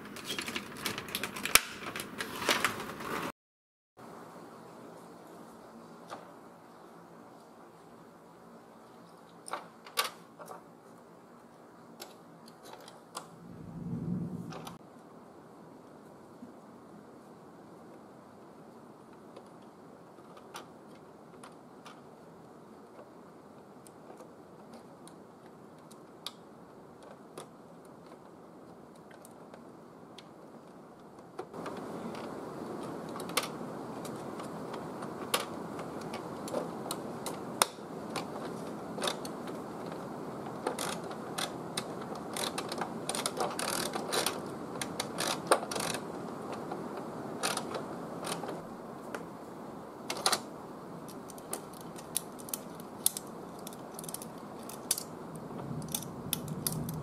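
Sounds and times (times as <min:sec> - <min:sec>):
steady background noise: 0:04.0 - 0:57.0.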